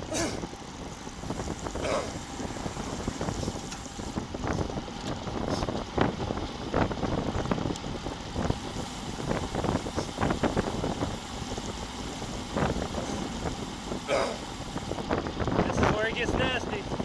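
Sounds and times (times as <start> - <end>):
bicycle rattles and knocks: 0.0 - 17.0
tyres rumbling on road: 0.0 - 17.0
wind buffeting microphone: 0.0 - 17.0.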